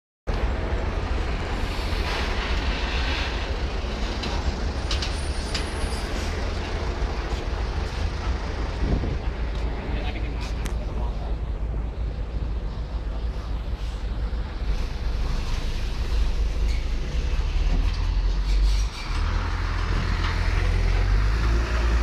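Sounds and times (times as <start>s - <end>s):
heavy truck rumbling: 0.3s - 22.0s.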